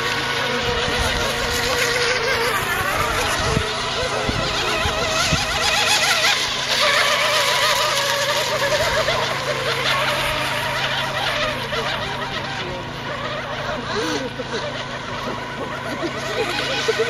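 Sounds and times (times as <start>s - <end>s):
model boat motors whining: 0.0s - 17.0s.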